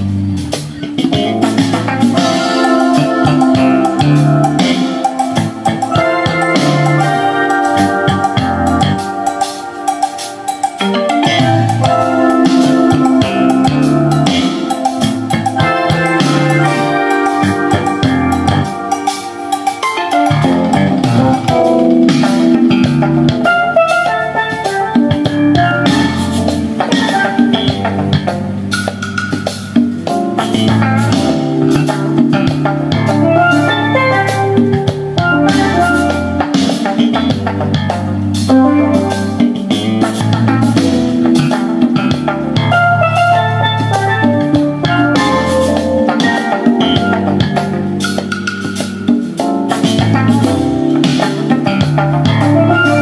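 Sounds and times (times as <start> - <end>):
instrumental jazz with drums and bass: 0.0 - 53.0.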